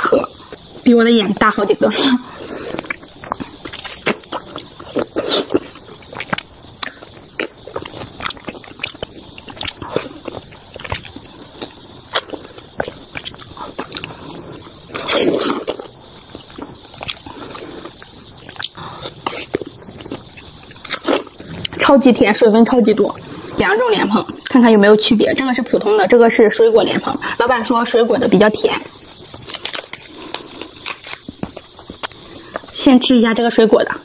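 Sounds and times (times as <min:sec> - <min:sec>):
wet chewing of grapes: 0:00.3 - 0:24.6, 0:28.6 - 0:32.8.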